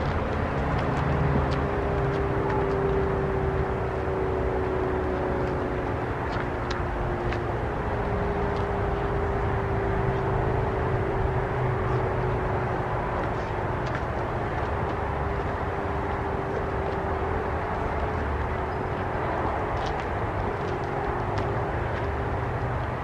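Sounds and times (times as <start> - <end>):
rotating warning siren: 0.0 - 23.0.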